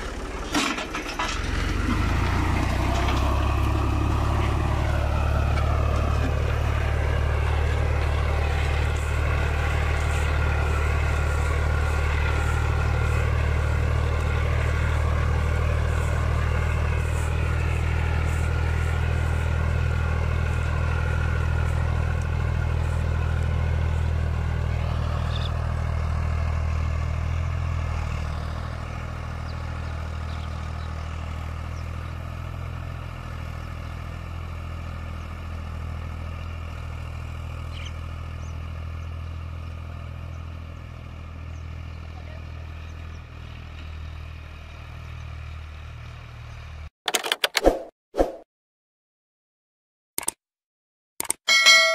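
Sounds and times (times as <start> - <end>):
tractor diesel engine under load: 0.0 - 47.4.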